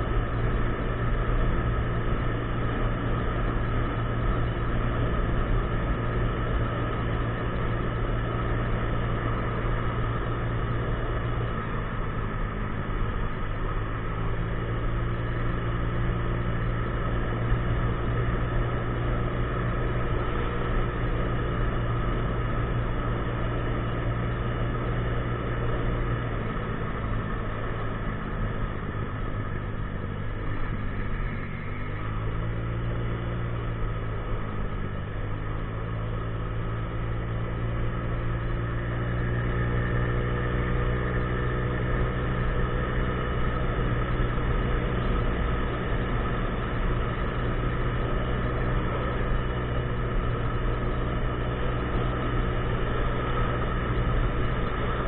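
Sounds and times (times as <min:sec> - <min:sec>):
road and wind noise: 0:00.0 - 0:55.0
scooter engine droning: 0:00.0 - 0:55.0.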